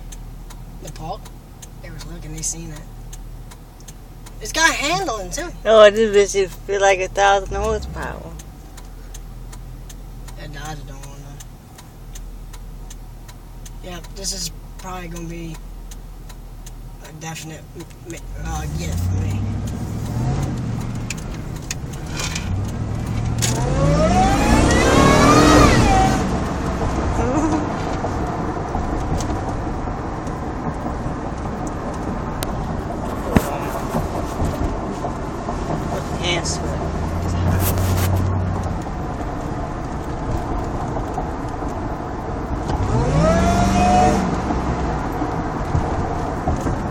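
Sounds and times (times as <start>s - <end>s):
road noise: 0.0s - 46.9s
truck engine revving: 1.2s - 46.9s.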